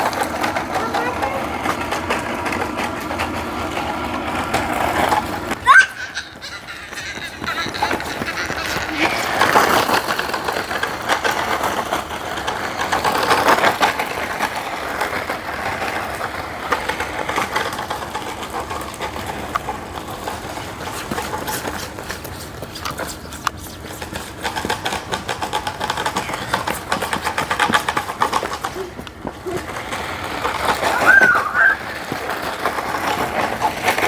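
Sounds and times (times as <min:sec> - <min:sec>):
chassis and wheels rattling: 0:00.0 - 0:34.0
toy truck motor whirring: 0:00.0 - 0:34.0.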